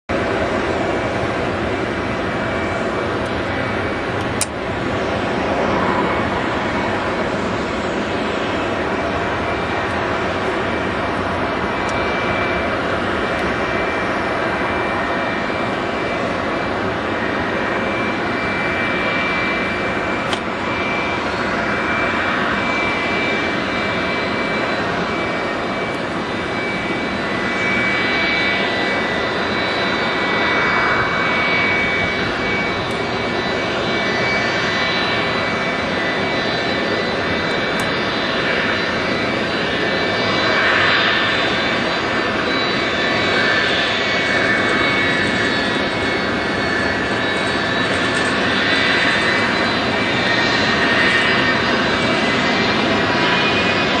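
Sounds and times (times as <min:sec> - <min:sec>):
high steady whining tones: 0:00.1 - 0:54.0
jet engines running: 0:00.1 - 0:54.0.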